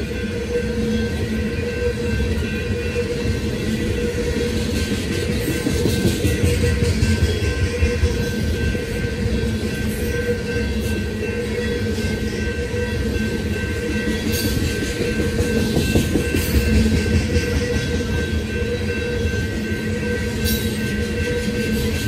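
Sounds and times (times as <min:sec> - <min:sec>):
clickety-clack of train trucks: 0:00.0 - 0:22.0
train wheels rumbling on rail: 0:00.0 - 0:22.0.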